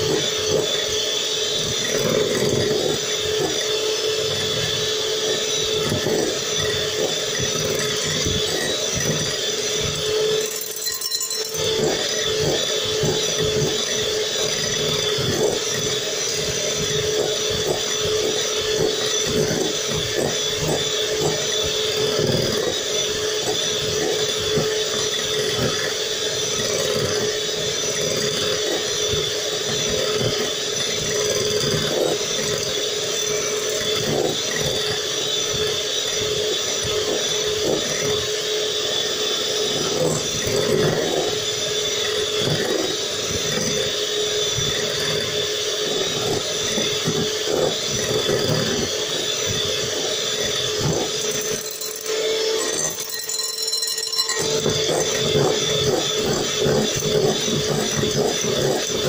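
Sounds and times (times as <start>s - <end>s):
beaters churning: 0.0s - 59.0s
hand mixer motor whine: 0.0s - 59.0s.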